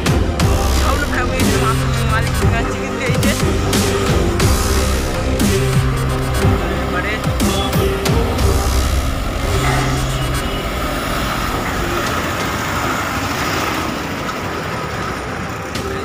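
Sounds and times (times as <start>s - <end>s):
truck engine driving past: 0.0s - 16.0s.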